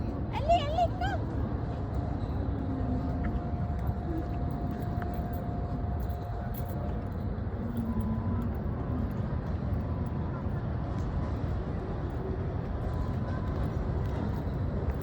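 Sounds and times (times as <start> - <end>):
low rumble of machinery or traffic: 0.0 - 15.0.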